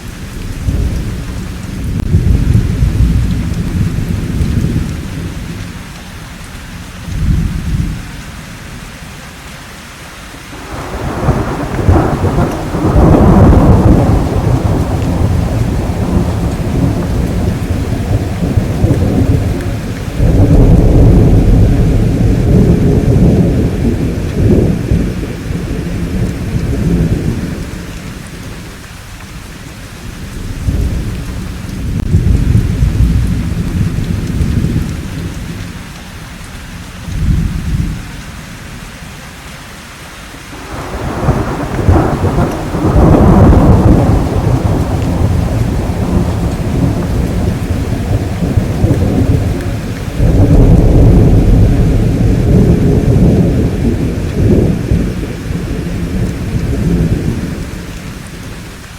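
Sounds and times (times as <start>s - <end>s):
rolling thunder: 0.0s - 5.9s, 10.6s - 35.9s, 36.8s - 38.2s, 40.6s - 58.9s
steady rainfall: 0.0s - 58.9s.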